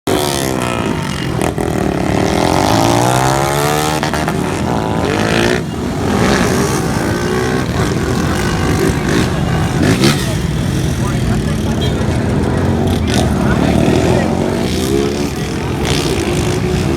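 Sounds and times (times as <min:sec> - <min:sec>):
motorcycle engines revving: 0:00.1 - 0:16.9.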